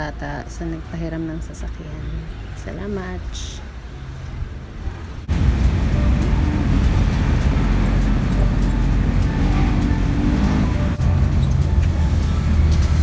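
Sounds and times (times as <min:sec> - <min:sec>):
faint music: 0:00.0 - 0:13.0
van engine and road noise: 0:00.0 - 0:13.0.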